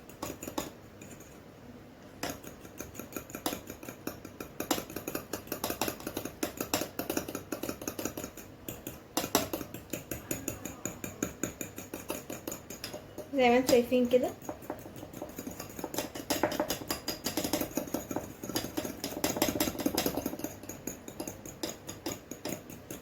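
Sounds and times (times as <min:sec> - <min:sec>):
utensil clicking against bowl: 0:00.0 - 0:01.4, 0:02.0 - 0:23.0.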